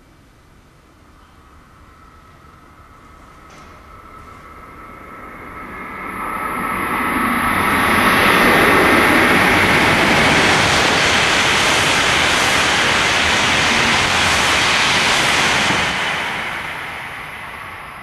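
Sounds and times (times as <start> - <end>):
bullet train passing: 0.0 - 18.0.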